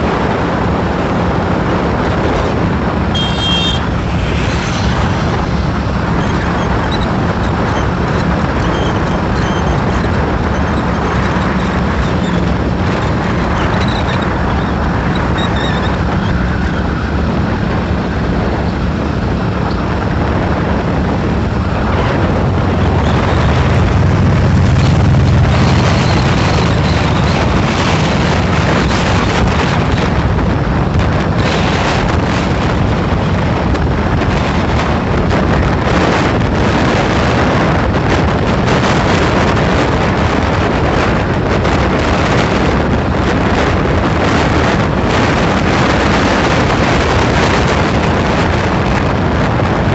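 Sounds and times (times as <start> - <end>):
motorcycle engine hum: 0.0 - 49.9
road noise: 0.0 - 49.9
wind buffeting microphone: 0.0 - 49.9.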